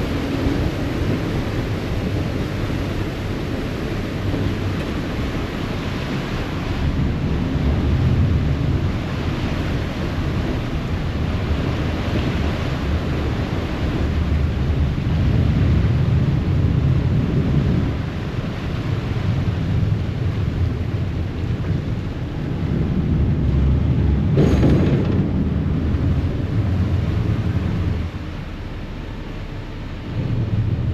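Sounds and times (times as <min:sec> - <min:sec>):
ferry engines rumbling: 0:00.0 - 0:30.9
water churning along hull: 0:00.0 - 0:30.9
wind buffeting microphone: 0:00.0 - 0:30.9.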